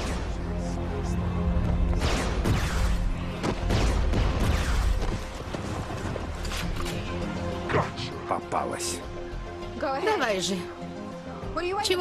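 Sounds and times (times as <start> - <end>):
action film score: 0.0 - 12.0.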